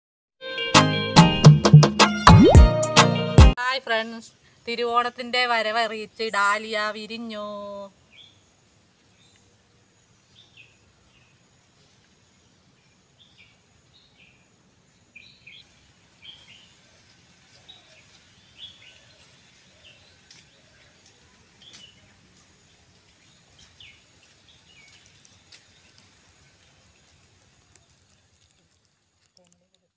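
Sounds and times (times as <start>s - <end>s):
low background hiss: 3.6s - 29.9s.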